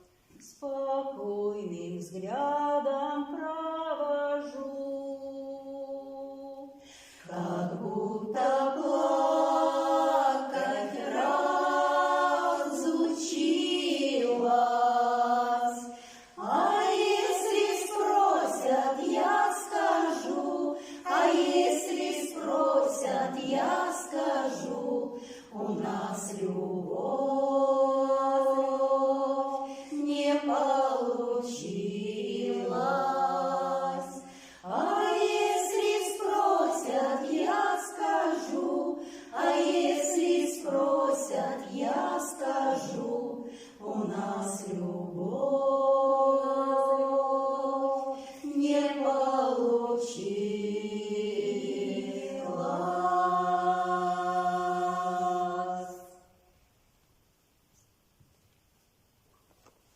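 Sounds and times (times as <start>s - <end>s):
vocal ensemble singing in harmony: 0.0s - 56.6s.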